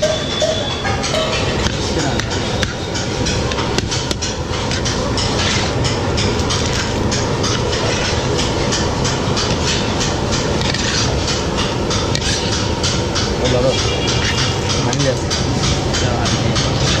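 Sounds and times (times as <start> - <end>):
machinery clattering: 0.0 - 17.0.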